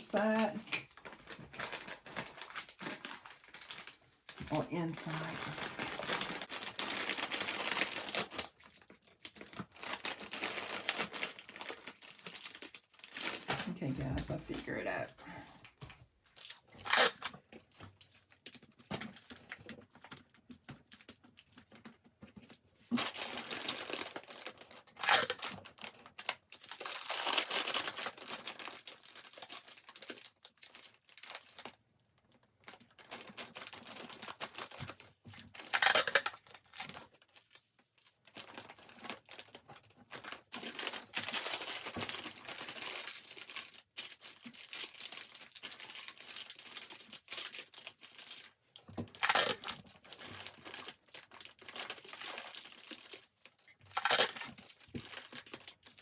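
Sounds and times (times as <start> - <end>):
plastic packaging crinkling: 0.0 - 56.0
loud packaging rips: 0.6 - 13.7, 16.4 - 17.4, 22.9 - 31.8, 32.6 - 56.0.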